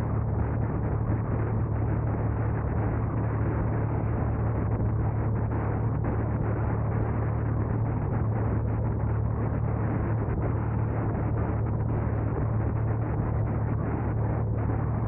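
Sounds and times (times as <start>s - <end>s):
deep steady hum: 0.0s - 15.0s.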